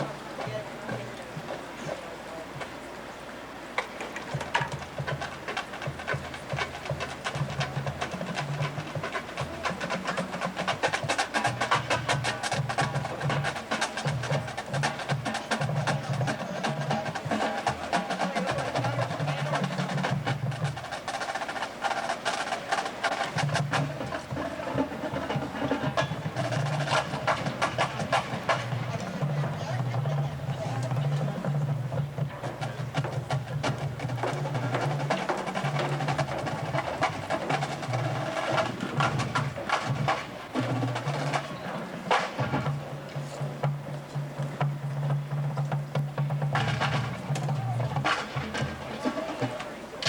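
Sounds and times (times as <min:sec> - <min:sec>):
snare drum strokes: 0:03.8 - 0:50.0.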